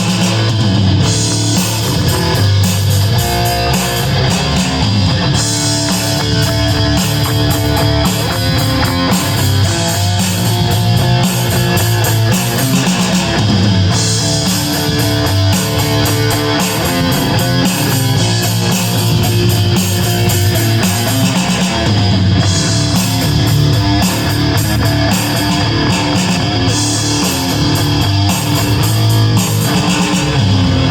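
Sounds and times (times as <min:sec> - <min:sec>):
distorted electric guitar: 0:00.0 - 0:30.9.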